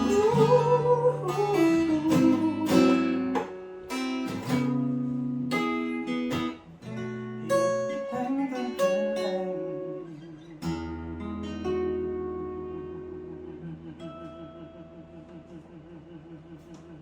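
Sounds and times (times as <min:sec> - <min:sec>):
acoustic guitar chords strummed: 0:00.0 - 0:15.8.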